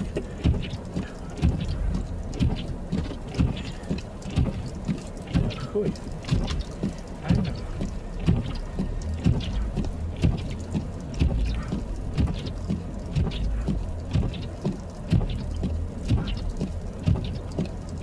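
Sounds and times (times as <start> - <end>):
regular knock: 0.0 - 17.8
car engine and road rumble: 0.0 - 18.0.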